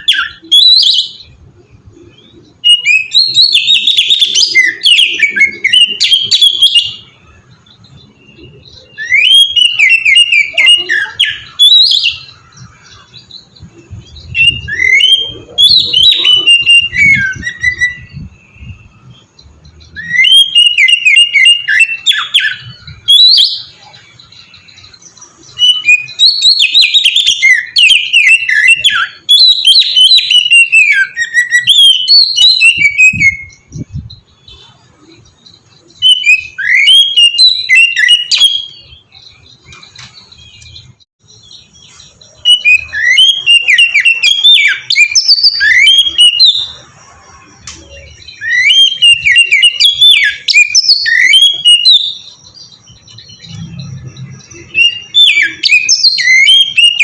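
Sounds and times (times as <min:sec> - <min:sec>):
bird singing chirps and whistles: 0:00.0 - 0:57.0.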